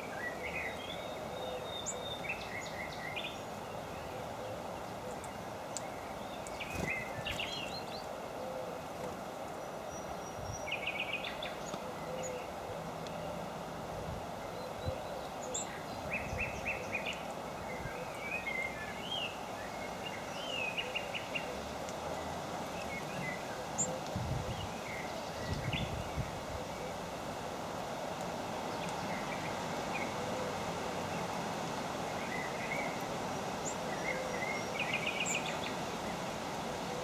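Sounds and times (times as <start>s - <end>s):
small birds chirping: 0.0s - 8.4s, 14.4s - 27.5s, 28.1s - 37.0s
steady background hiss: 0.0s - 37.0s.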